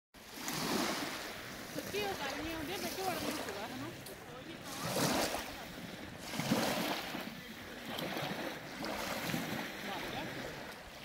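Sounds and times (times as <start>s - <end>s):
waves lapping on sandy shore: 0.2s - 11.0s.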